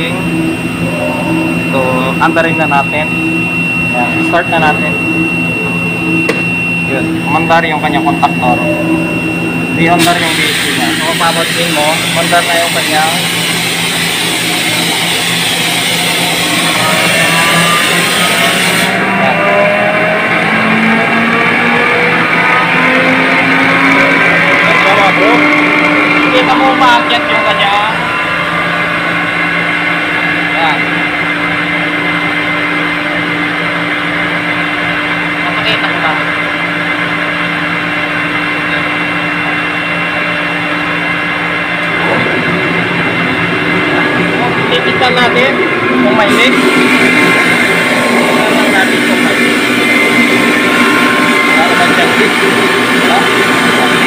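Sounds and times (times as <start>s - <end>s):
air compressor humming: 0.0s - 54.0s.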